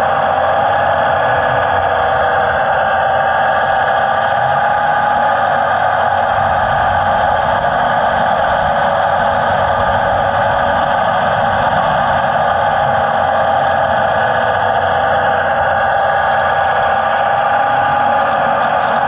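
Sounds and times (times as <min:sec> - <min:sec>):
model machine engine drone: 0:00.0 - 0:19.0.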